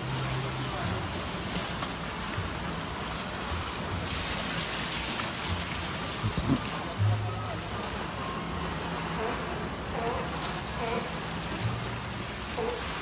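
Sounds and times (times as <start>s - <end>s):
water rushing and splashing: 0.0s - 13.0s.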